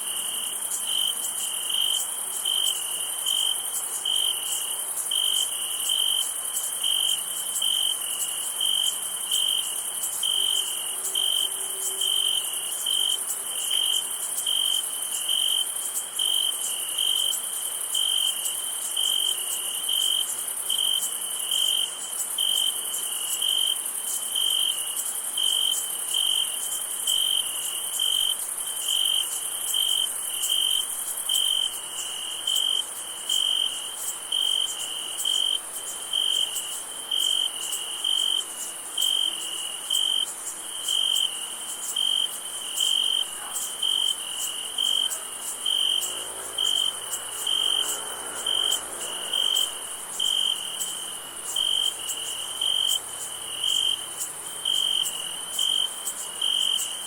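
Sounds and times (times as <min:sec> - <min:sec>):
crickets chirping: 0:00.0 - 0:57.0
high-pitched insect hum: 0:00.0 - 0:57.0.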